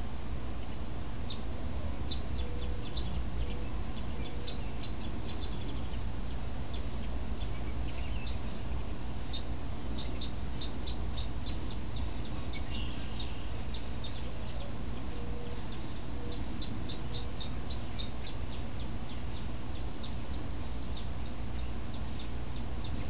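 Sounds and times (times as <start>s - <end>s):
steady low rumble: 0.0s - 23.0s
woodpecker begging calls: 0.6s - 23.0s.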